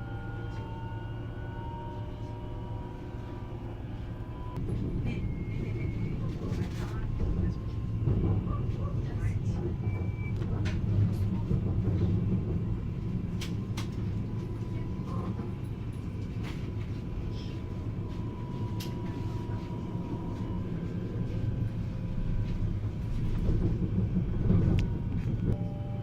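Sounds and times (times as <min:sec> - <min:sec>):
train carriage rumble: 0:00.0 - 0:26.0.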